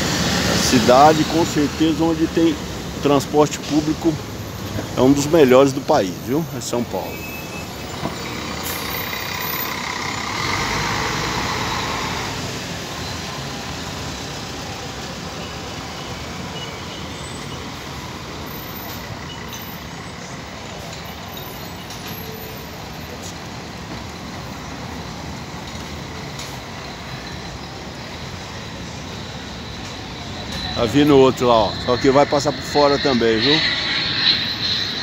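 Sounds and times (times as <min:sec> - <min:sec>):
bus driving past: 0:00.0 - 0:35.0
street traffic noise: 0:00.0 - 0:35.0.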